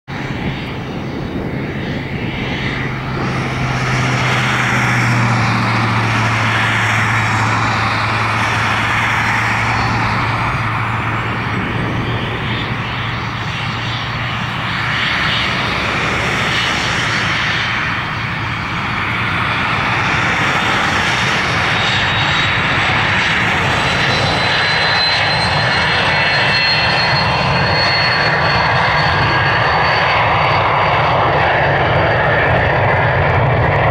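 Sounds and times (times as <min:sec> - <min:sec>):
high turbine whine: 0:00.1 - 0:33.9
jet engines running up: 0:00.1 - 0:33.9.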